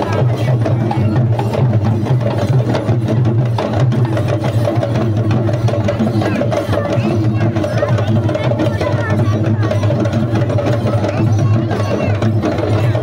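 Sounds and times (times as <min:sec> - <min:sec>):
procession drums beating fast rhythm: 0:00.0 - 0:13.0.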